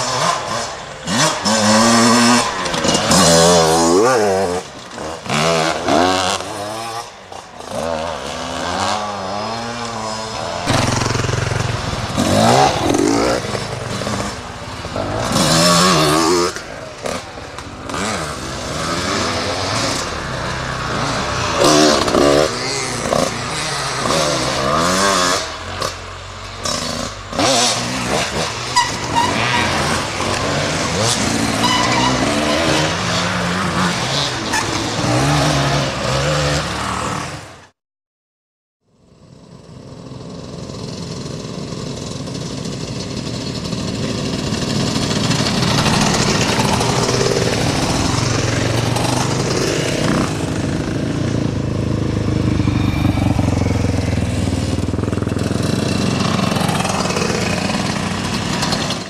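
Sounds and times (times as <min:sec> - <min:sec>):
dirt bike engines revving: 0:00.0 - 0:37.7, 0:39.5 - 0:59.0.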